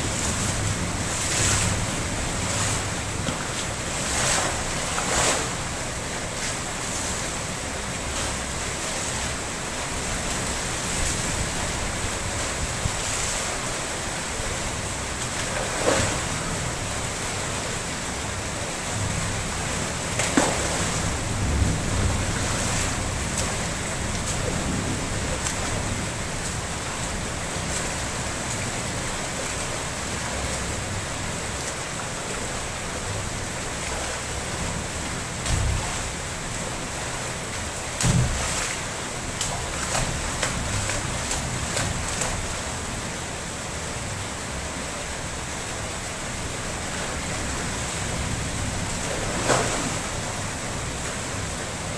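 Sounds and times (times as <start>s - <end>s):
water splashing: 0.0s - 44.2s, 45.5s - 51.9s.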